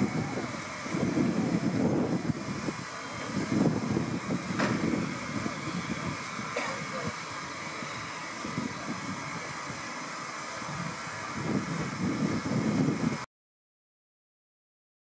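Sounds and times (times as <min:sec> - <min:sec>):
steam hissing from locomotive: 0:00.0 - 0:13.3.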